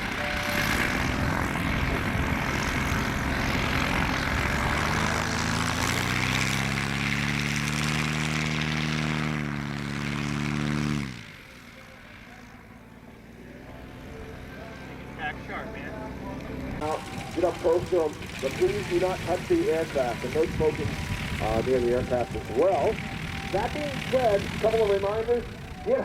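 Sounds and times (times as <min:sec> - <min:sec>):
propeller aircraft engine: 0:00.0 - 0:26.0.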